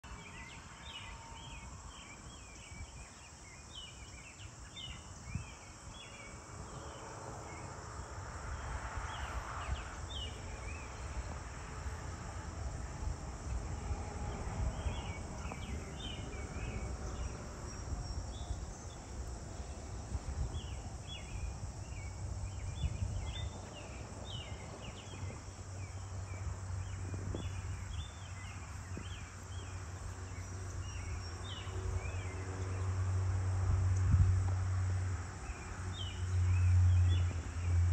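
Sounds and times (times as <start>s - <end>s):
insects chirping: 0.0s - 37.9s.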